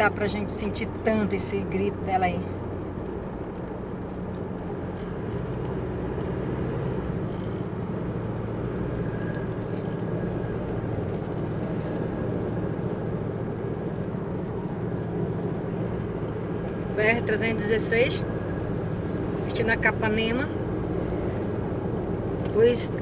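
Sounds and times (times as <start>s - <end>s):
engine and road drone: 0.0s - 23.0s.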